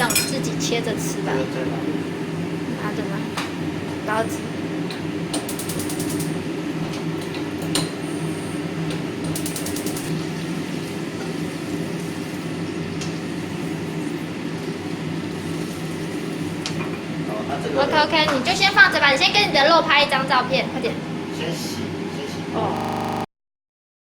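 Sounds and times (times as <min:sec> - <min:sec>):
range hood fan humming: 0:00.0 - 0:23.2.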